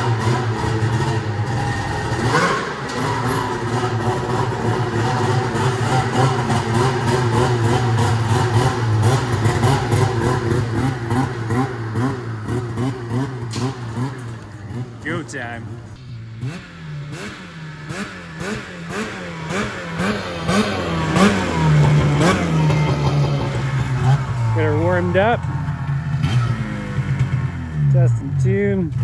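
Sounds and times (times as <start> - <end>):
snowmobile engine running: 0.0 - 29.0.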